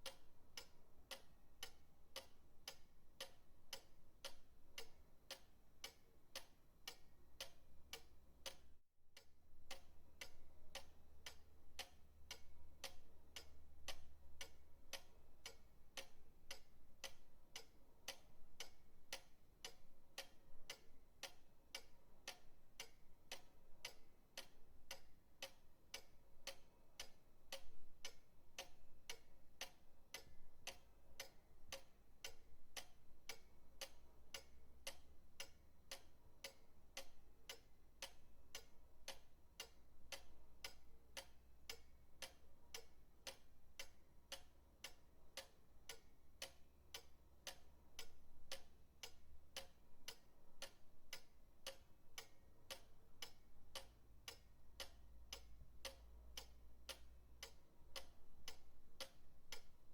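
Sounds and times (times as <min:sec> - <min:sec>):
pendulum clock ticking: 0:00.0 - 0:59.9.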